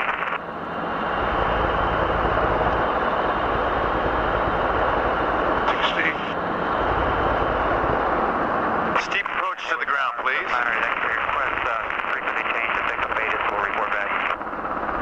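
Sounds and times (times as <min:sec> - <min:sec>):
helicopter engine and rotors droning: 0:00.0 - 0:15.0.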